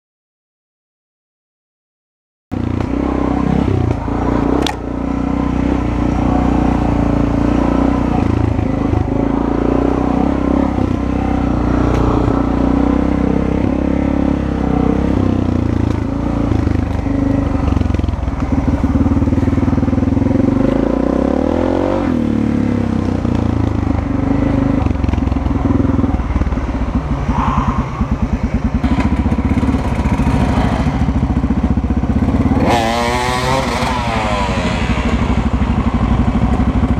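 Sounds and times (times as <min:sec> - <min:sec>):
dirt bike engine running: 0:02.5 - 0:36.9.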